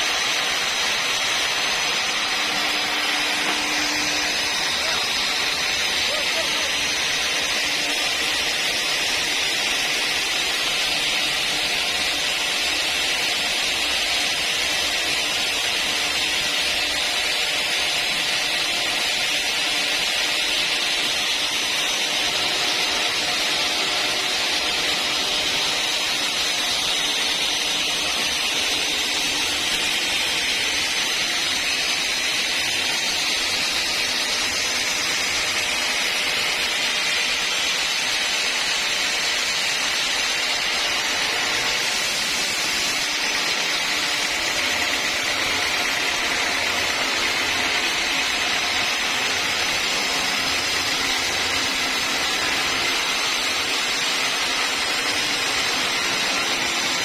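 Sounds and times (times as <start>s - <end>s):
sawmill saw cutting timber: 0.0s - 57.0s.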